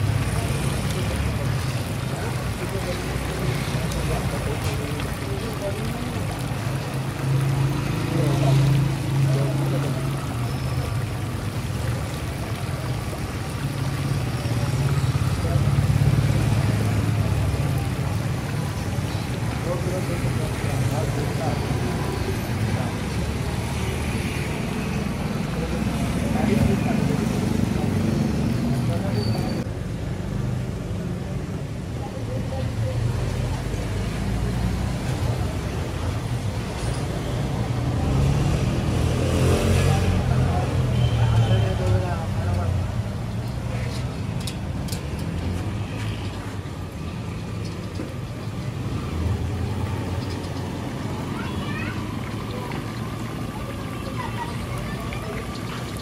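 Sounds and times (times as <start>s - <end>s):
oil bubbling and sizzling: 0.0s - 56.0s
street traffic rumble: 0.0s - 56.0s.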